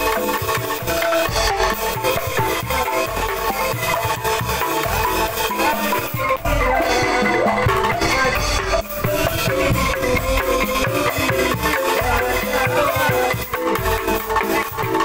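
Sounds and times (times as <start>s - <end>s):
bamboo angklung notes: 0.0s - 15.0s
barrel drum beats: 0.0s - 15.0s
person singing into a microphone: 0.0s - 15.0s.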